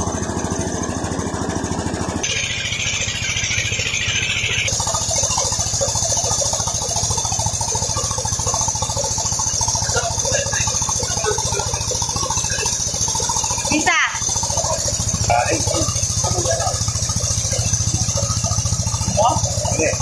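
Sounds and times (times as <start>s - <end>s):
mill engine running: 0.0s - 20.0s.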